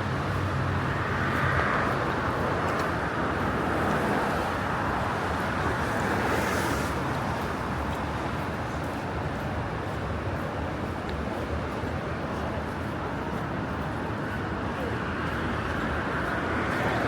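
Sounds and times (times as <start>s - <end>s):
tyres swishing on wet road: 0.2s - 17.0s.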